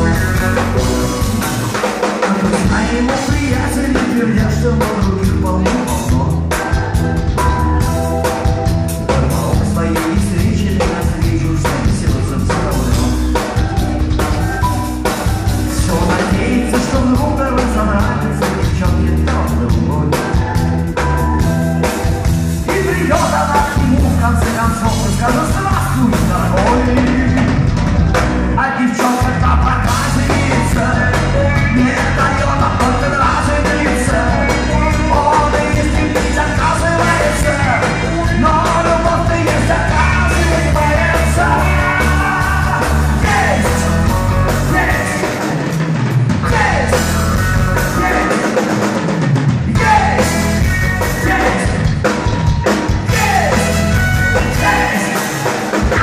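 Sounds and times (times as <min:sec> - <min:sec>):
person singing: 0:00.0 - 0:07.6, 0:09.0 - 0:45.6, 0:46.4 - 0:47.2, 0:47.8 - 0:48.7, 0:49.7 - 0:56.0
drums: 0:00.0 - 0:56.0
electric guitars: 0:00.0 - 0:56.0.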